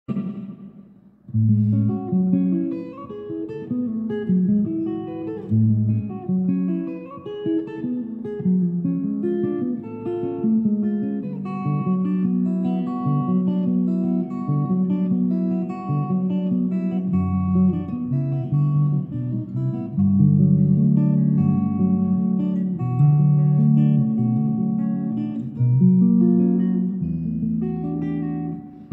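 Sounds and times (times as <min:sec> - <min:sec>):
clean electric guitar notes: 0:00.1 - 0:28.9.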